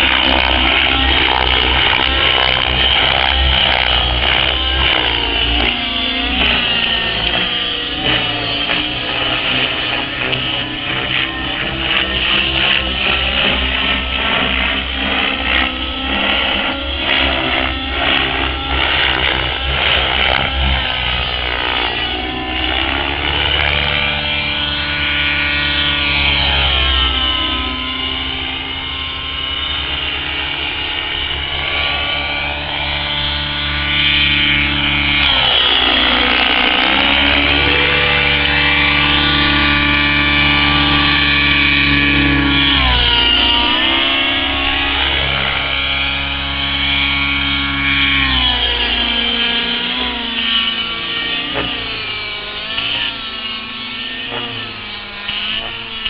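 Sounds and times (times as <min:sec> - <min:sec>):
model helicopter motor: 0:00.0 - 0:56.0.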